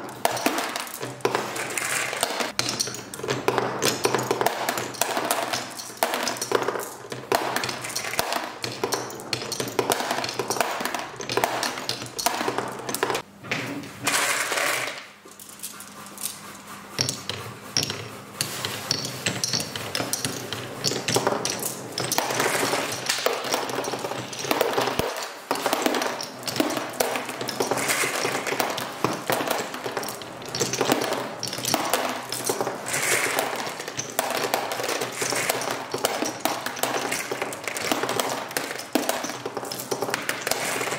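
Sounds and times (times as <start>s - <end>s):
marbles clattering on wooden track: 0.0s - 13.3s, 14.1s - 15.9s, 17.0s - 40.9s.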